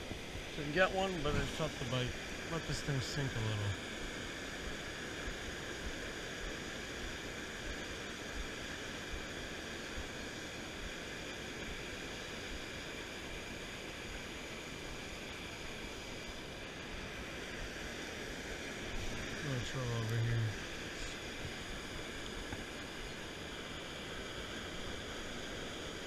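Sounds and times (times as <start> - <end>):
water rushing over weir: 0.0 - 26.0.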